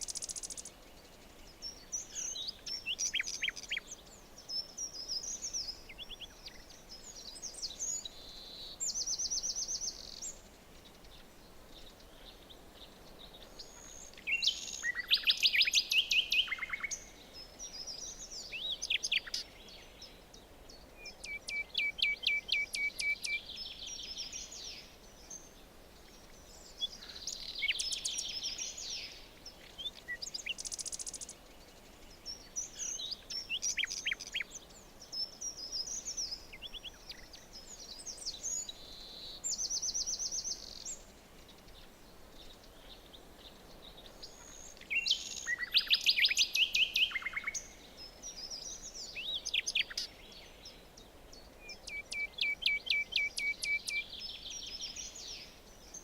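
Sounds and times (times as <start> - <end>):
faint steady hiss: 0.0 - 56.0
songbirds singing: 0.0 - 56.0.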